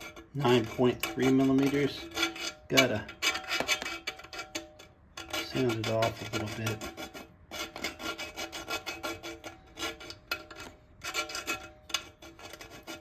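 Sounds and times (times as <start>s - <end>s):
hand-sanding rubber rasping: 0.0s - 4.6s, 5.3s - 13.0s.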